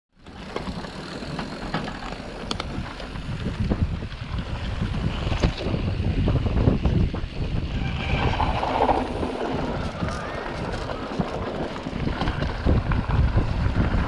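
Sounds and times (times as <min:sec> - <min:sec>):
bike tyres rumbling and rattling: 0:00.2 - 0:14.0
wind buffeting microphone: 0:00.7 - 0:14.0.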